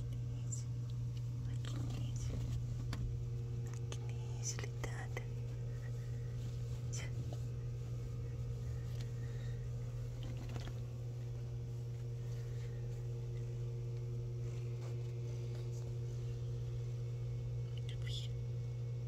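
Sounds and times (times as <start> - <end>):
steady low hum: 0.0 - 19.0
soft rustles: 0.8 - 17.0.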